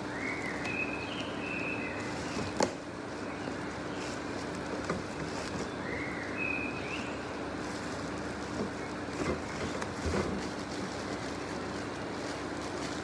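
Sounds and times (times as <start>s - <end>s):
plastic wrapping crinkling: 1.8s - 13.0s.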